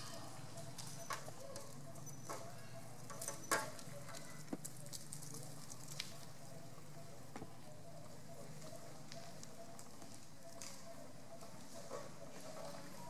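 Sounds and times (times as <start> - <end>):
low outdoor hum: 0.0 - 13.0.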